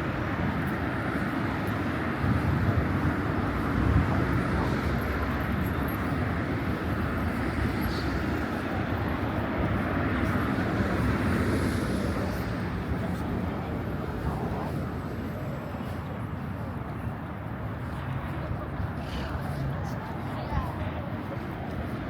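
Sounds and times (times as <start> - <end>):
traffic: 0.0 - 22.0.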